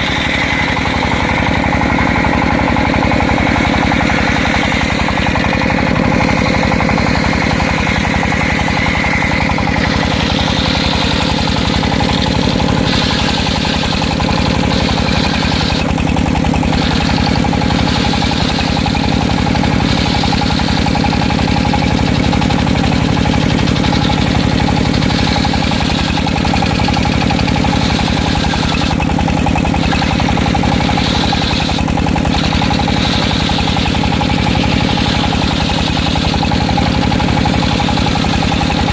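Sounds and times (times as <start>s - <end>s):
circular saw engine running: 0.0s - 38.9s
high tone: 0.0s - 38.9s.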